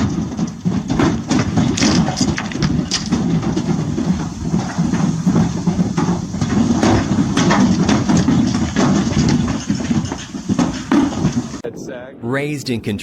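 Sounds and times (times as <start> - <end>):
horses galloping hoofbeats: 0.0 - 11.6.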